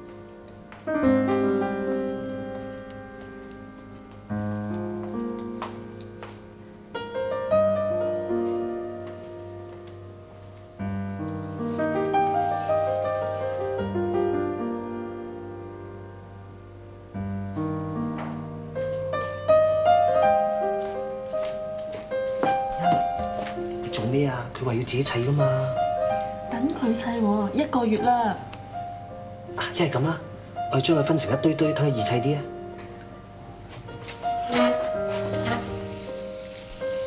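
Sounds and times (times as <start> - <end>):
slow piano chords: 0.0 - 37.0.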